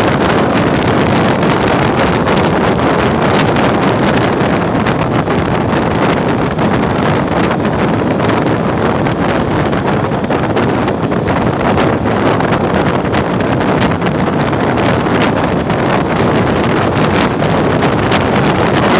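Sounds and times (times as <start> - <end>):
motorcycle riding noise: 0.0 - 18.9
wind rushing over microphone: 0.0 - 18.9.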